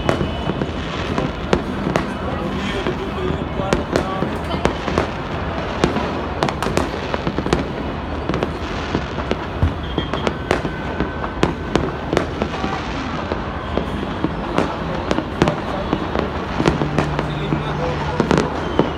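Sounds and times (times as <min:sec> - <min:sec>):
fireworks bangs: 0:00.0 - 0:18.9.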